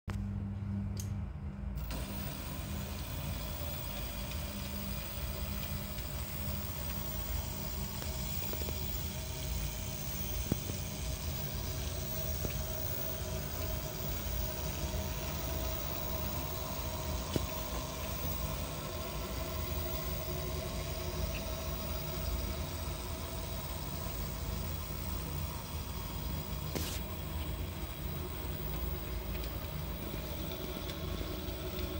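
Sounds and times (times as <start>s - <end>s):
model locomotive motor hum: 1.8s - 31.9s.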